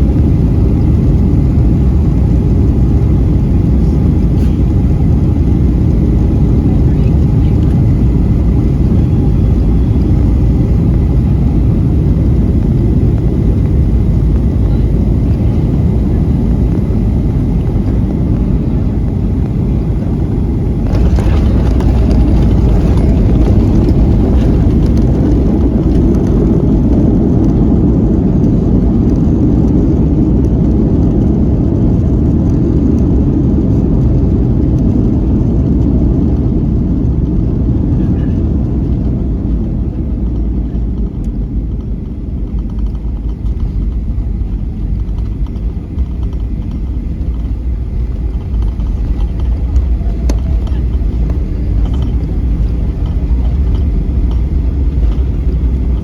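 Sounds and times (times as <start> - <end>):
jet engines and wheels rumbling: 0.0 - 56.0.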